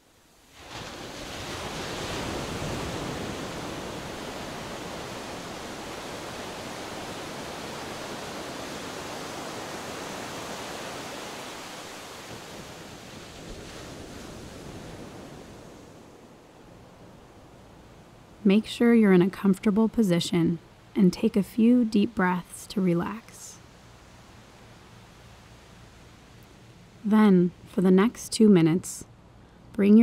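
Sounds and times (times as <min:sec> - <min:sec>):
rushing outdoor ambience: 0:00.0 - 0:29.7.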